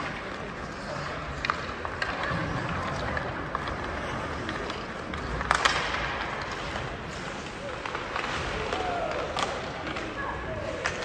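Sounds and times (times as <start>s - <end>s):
arena background noise: 0.0s - 11.0s
hockey sticks hitting puck: 0.0s - 11.0s
skate blades scraping ice: 0.0s - 11.0s.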